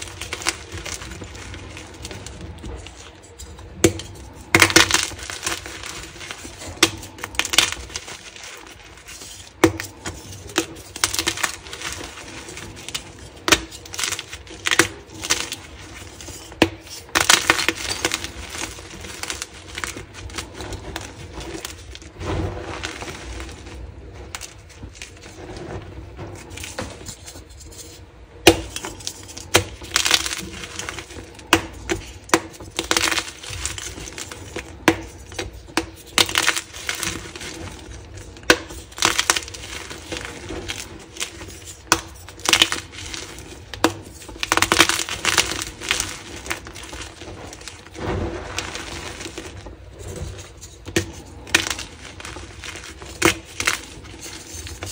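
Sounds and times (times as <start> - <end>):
chalk crunching and crumbling: 0.0 - 54.9.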